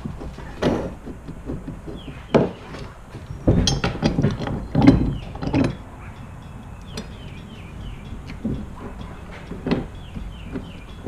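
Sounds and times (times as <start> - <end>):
knocks and clacks: 0.0 - 11.0.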